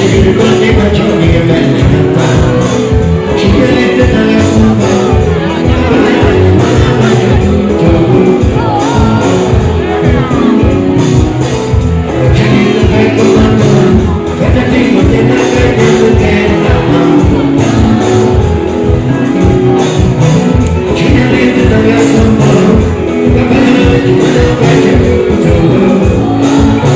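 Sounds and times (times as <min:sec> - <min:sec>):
live band music: 0:00.0 - 0:26.9
person singing: 0:00.0 - 0:26.9.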